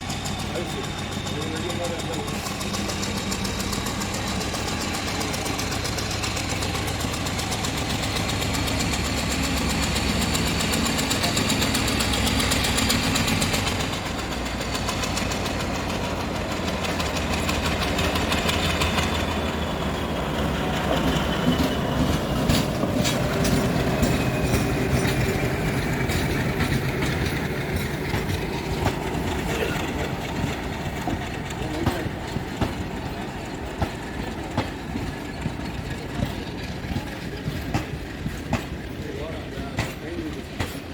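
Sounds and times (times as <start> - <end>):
diesel locomotive engine running: 0.0 - 40.9
train wheels clacking on rail joints: 0.0 - 40.9.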